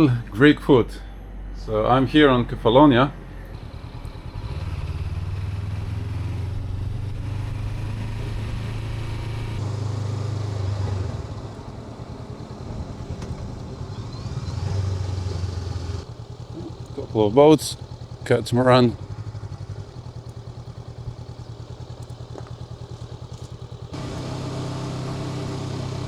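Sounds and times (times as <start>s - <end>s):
motorcycle engine running: 3.1s - 26.0s.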